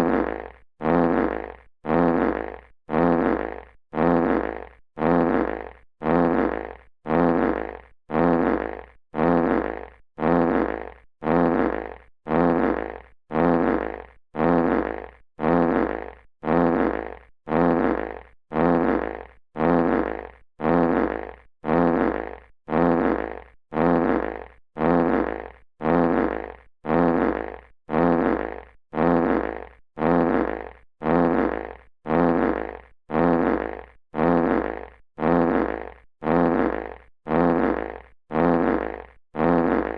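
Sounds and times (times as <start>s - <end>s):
buzzy fart sound effect: 0.0s - 39.9s.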